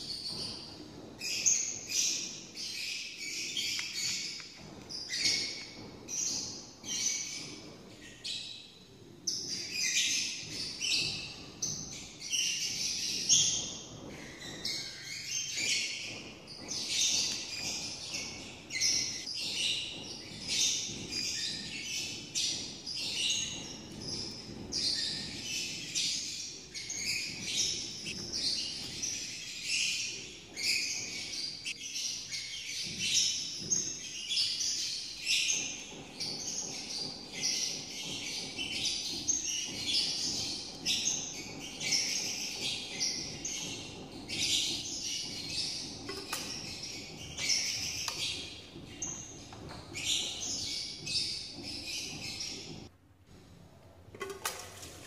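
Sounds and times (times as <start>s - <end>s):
birds chirping and singing: 0.0s - 52.9s.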